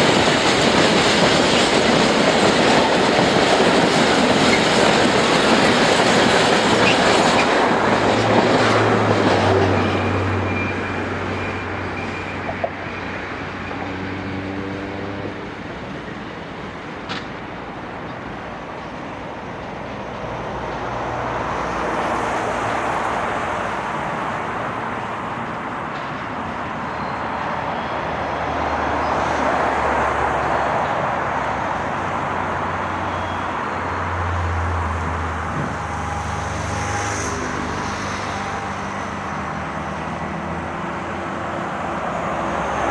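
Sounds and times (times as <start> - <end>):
passing vehicles rumbling: 0.0 - 42.9.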